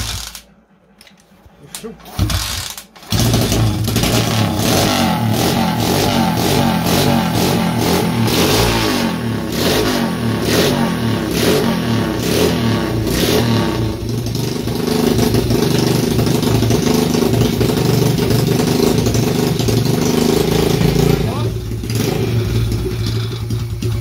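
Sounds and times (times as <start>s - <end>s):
motorbike engine revving: 2.1s - 24.0s.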